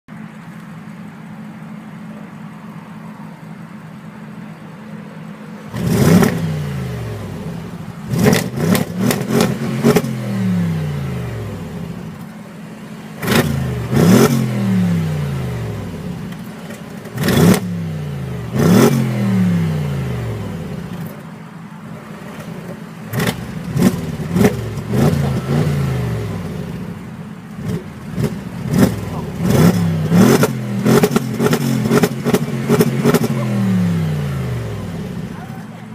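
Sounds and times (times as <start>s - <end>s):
car engine idling: 0.1s - 35.9s
car engine revving in blips: 0.2s - 35.9s.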